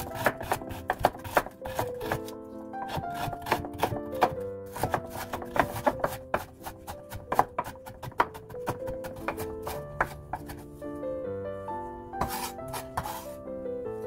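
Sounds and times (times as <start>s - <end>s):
knife chopping on wooden board: 0.0s - 10.6s, 12.2s - 13.3s
background music: 0.0s - 14.0s.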